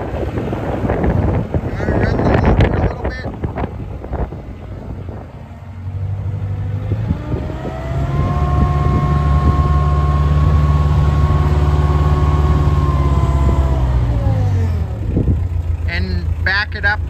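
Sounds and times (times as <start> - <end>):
skid steer loader engine revving: 0.0 - 17.0.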